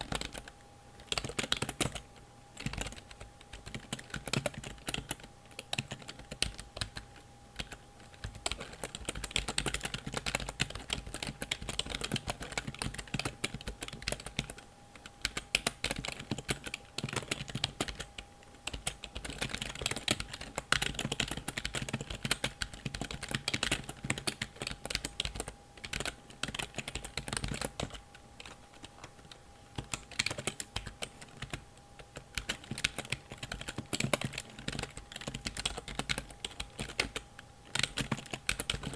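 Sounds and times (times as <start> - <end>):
typing on computer keyboard: 0.0 - 38.9.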